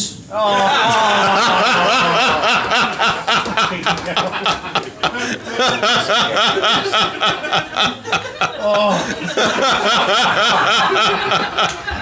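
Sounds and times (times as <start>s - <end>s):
audience laughing: 0.4s - 12.0s.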